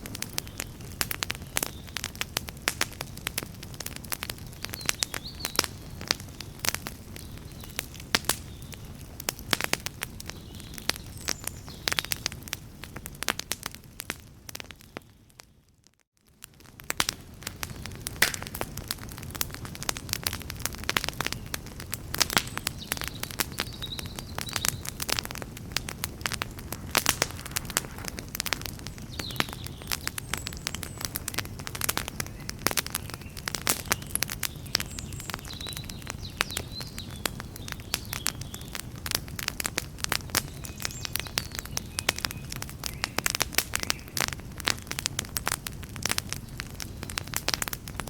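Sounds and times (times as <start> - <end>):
campfire wood crackling and popping: 0.0 - 48.0
low rumble of flames: 0.0 - 48.0.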